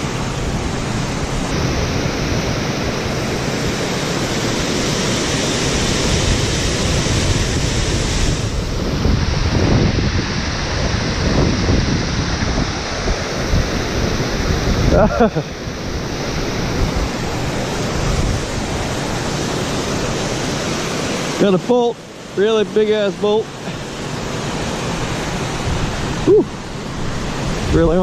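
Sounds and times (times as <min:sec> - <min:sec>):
wind buffeting microphone: 0:00.0 - 0:21.4, 0:23.8 - 0:28.0
water churning below spillway: 0:00.0 - 0:28.0.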